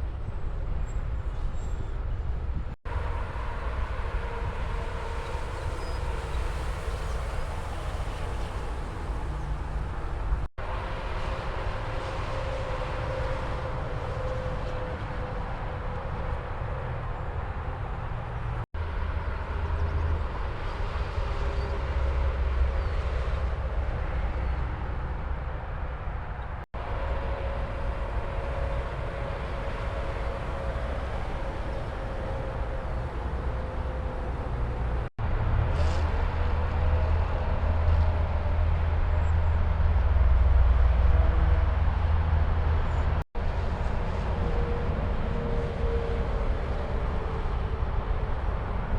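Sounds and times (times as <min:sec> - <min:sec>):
highway traffic rumble: 0:00.0 - 0:48.9.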